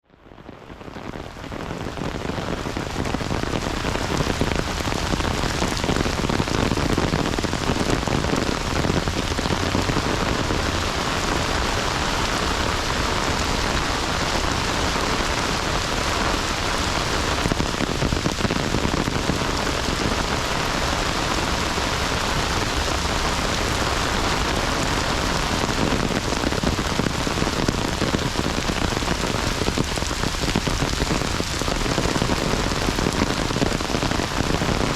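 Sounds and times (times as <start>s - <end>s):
heavy rain falling: 0.2s - 34.9s.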